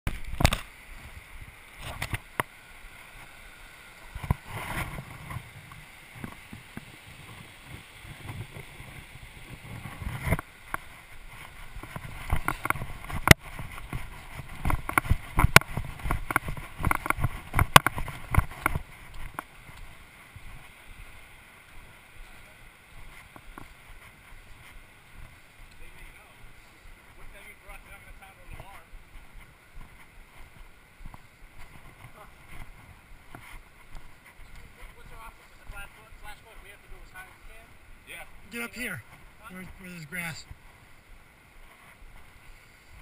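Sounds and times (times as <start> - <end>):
faint steady hiss: 0.1 - 43.0
footsteps on gravel trail: 0.1 - 43.0.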